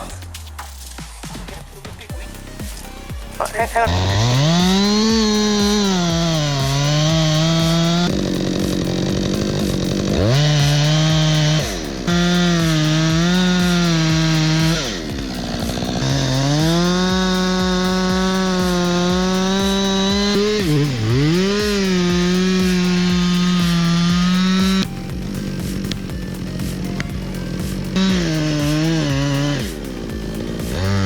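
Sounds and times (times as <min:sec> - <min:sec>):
chainsaw cutting wood: 0:02.1 - 0:31.0.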